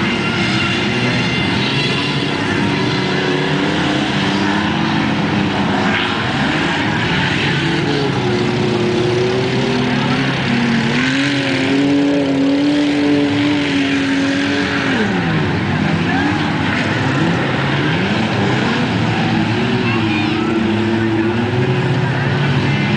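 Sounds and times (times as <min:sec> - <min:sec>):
racing car engines revving: 0:00.0 - 0:22.9.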